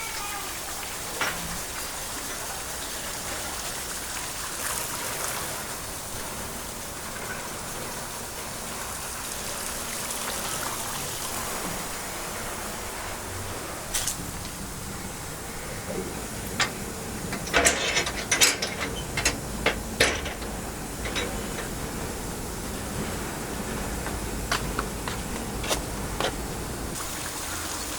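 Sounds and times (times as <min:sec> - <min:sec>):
running water hiss: 0:00.0 - 0:27.9.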